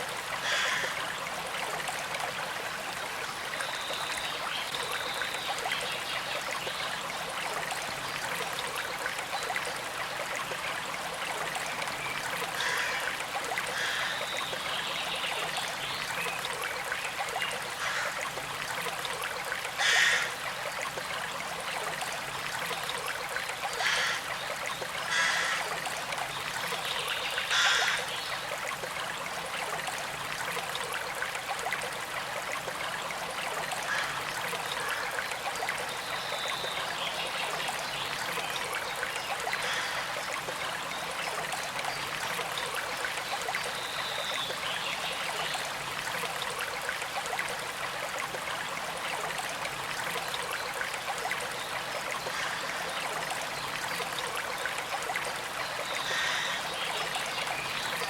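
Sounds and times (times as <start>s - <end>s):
creek trickling: 0.0s - 58.0s.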